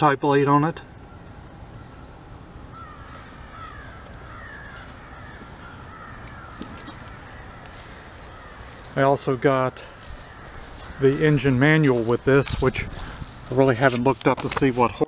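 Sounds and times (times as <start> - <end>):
distant birds calling: 0.0 - 15.0
low outdoor background noise: 0.0 - 15.0.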